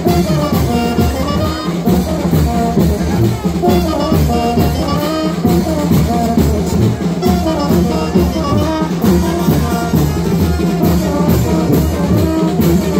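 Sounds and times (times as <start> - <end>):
brass band playing dance music: 0.0 - 12.9
cymbals and drums: 0.0 - 12.9
horn melody: 0.0 - 12.9.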